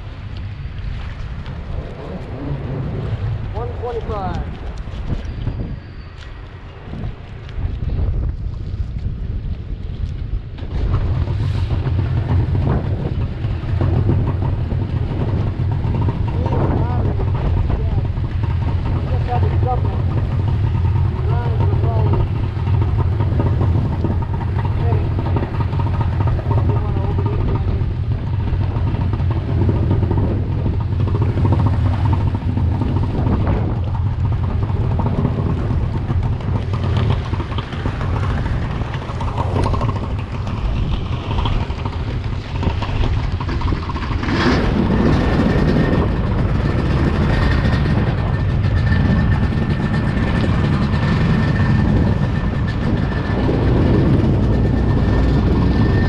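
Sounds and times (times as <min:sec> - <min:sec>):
jet ski engine: 0:00.0 - 0:56.0
water rushing past hull: 0:00.0 - 0:56.0.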